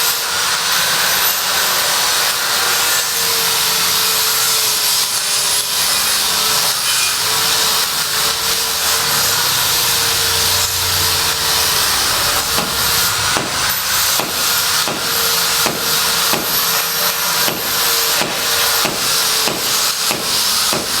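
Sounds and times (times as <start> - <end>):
sawing strokes: 0.0 - 21.0.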